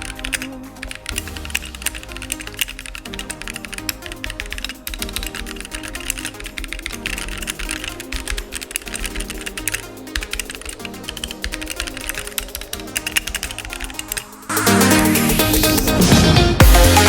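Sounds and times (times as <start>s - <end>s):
mechanical keyboard typing: 0.0s - 16.0s
electronic background music: 0.0s - 17.0s.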